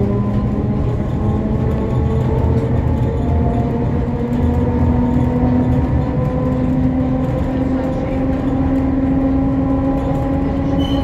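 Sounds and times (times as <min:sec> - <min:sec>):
tram wheels rumbling on track: 0:00.0 - 0:11.0.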